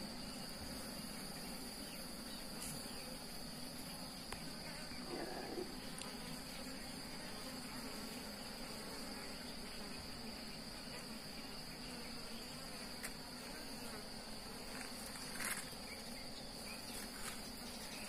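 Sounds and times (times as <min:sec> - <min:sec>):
high-pitched insect trill: 0:00.0 - 0:18.0
honeybees buzzing: 0:00.0 - 0:18.0.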